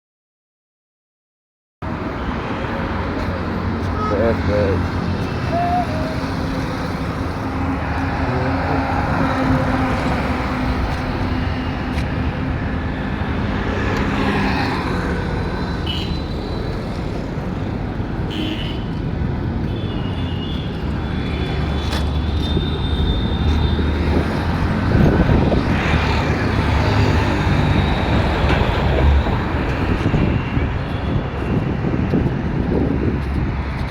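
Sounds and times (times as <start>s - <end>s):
road traffic passing: 1.8s - 33.9s.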